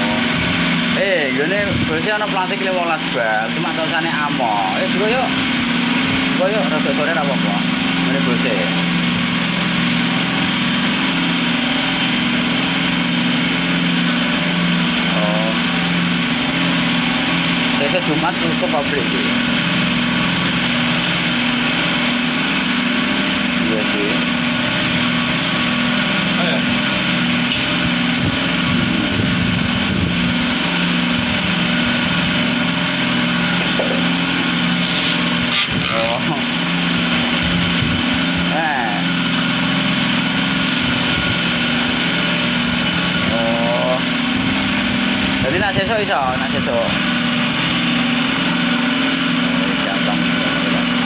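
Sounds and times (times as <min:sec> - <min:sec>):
cotton candy machine humming: 0:00.0 - 0:51.0.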